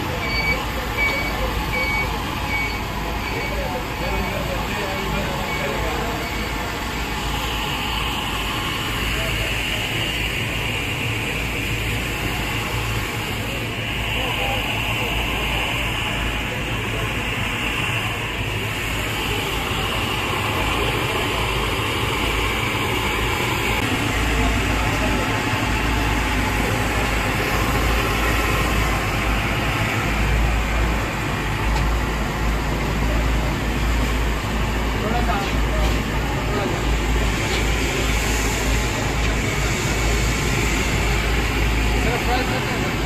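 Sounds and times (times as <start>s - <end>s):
people chattering: 0.0s - 43.0s
traffic rumble: 0.0s - 43.0s.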